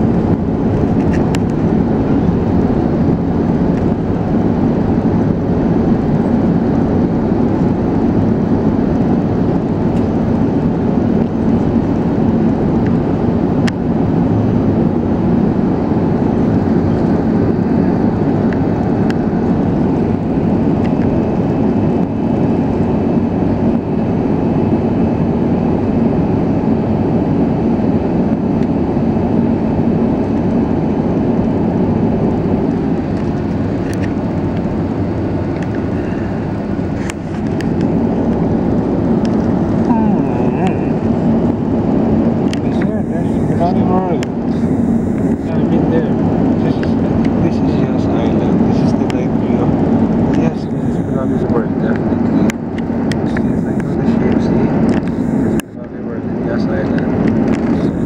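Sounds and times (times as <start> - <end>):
aircraft cabin engine rush: 0.0 - 58.0.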